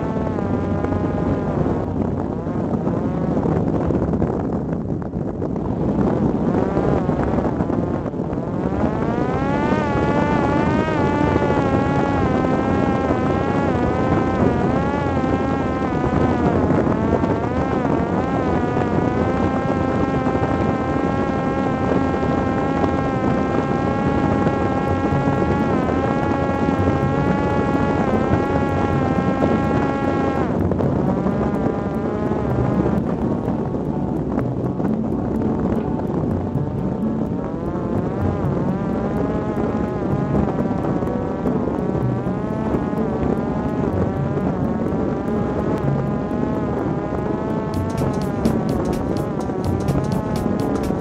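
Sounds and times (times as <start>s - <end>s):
drone motor and propeller whining: 0.0s - 51.0s
wind rushing past microphone: 0.0s - 51.0s.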